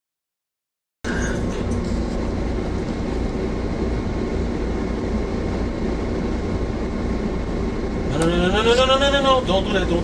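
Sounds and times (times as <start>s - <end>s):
low rumble and hum in train cab: 1.0s - 10.0s.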